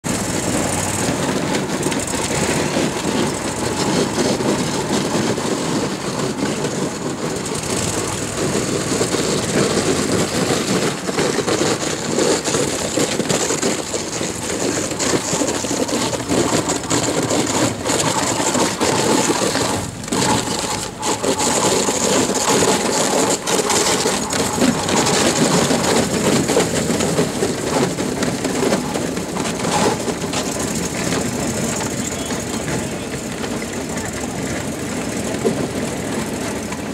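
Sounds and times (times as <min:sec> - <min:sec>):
outboard motor running: 0:00.0 - 0:36.9.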